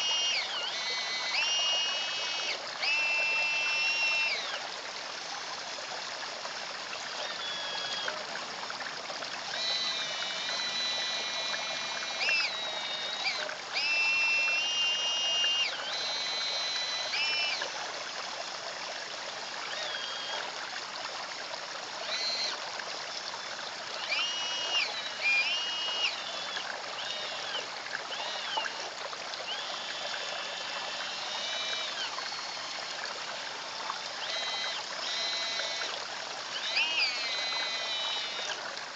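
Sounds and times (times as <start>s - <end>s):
small electric motors whining: 0.0s - 38.9s
water trickling into pond: 0.0s - 38.9s.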